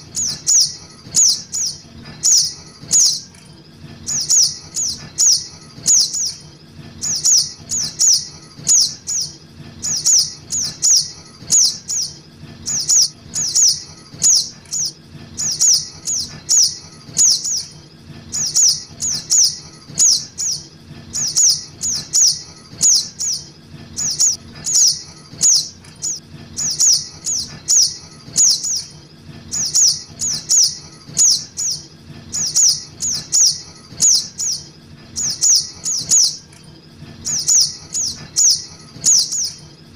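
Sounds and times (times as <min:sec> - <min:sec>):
high bird chirps: 0:00.0 - 0:03.4, 0:04.0 - 0:36.5, 0:37.2 - 0:39.7.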